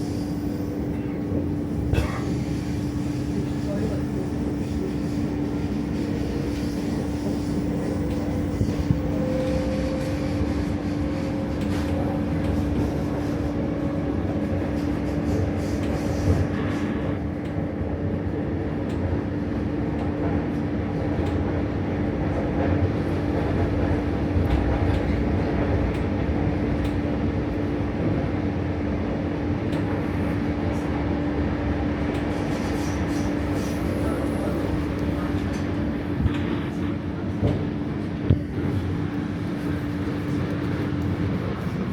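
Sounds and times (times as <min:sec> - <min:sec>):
train rumbling along track: 0:00.0 - 0:41.9.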